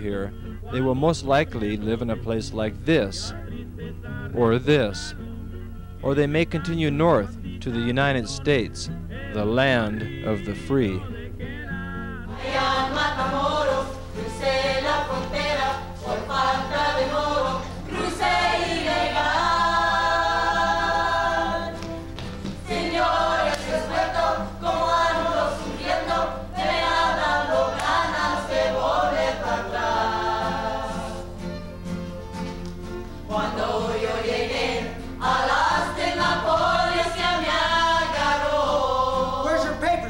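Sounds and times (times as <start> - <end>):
steady low hum: 0.0 - 40.0
group of voices singing: 6.1 - 31.4, 33.2 - 40.0.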